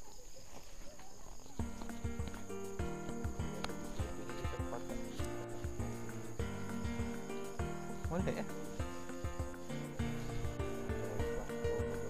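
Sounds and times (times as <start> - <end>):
held notes over low beat: 1.6 - 12.0.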